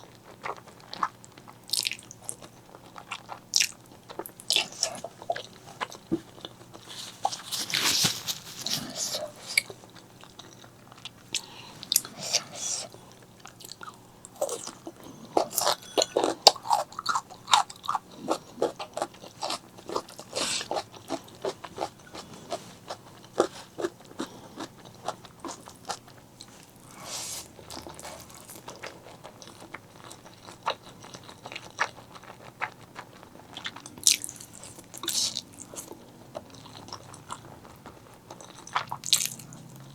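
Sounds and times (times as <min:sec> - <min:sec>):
wet chewing and mouth clicks: 0:00.0 - 0:39.9.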